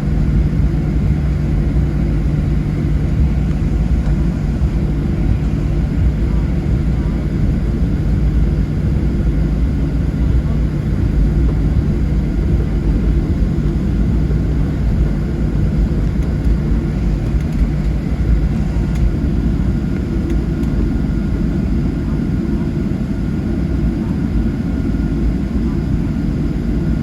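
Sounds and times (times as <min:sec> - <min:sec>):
jet engine rumble in cabin: 0:00.0 - 0:27.0.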